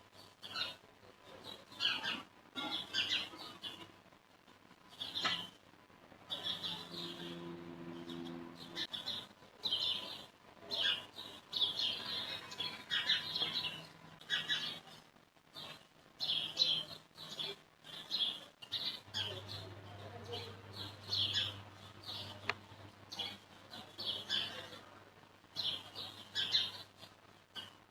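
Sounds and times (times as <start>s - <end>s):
small birds chirping: 0.0s - 4.1s, 4.7s - 27.9s.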